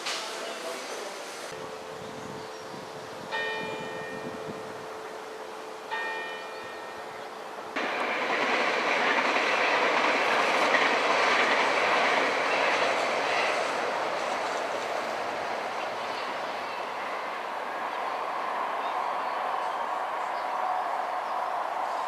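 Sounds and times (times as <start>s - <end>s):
steady rail noise: 0.0s - 22.0s
train electrical hum: 0.4s - 22.0s.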